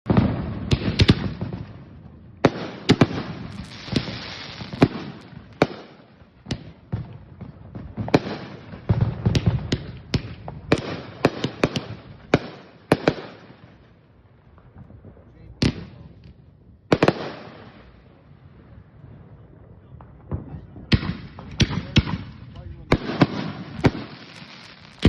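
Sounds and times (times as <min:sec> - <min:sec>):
fireworks bangs: 0:00.1 - 0:25.0
fireworks crackling: 0:00.1 - 0:25.0.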